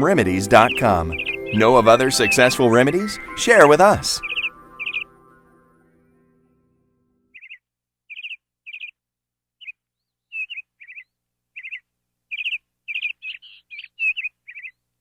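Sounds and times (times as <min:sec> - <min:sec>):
bird chirping: 0:00.0 - 0:05.6, 0:07.3 - 0:09.0, 0:09.6 - 0:14.8.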